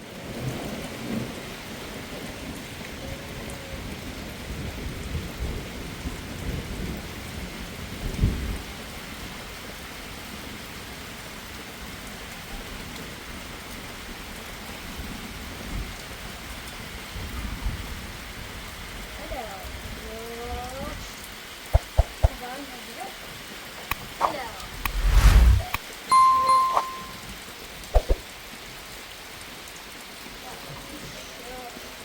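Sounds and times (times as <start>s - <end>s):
heavy rain: 0.0s - 25.8s, 27.5s - 32.0s.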